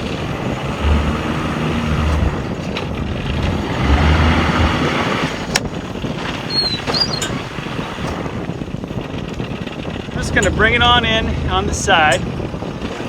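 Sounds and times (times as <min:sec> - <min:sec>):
boat engine running low: 0:00.0 - 0:13.0
wind on microphone: 0:00.0 - 0:13.0.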